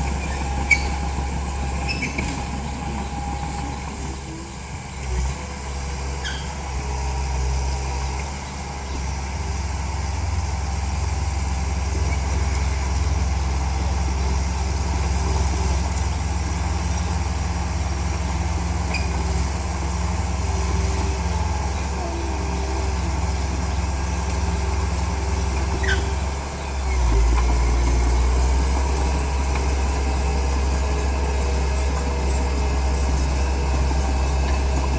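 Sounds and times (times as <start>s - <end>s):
bulldozer diesel engine rumbling: 0.0s - 34.9s.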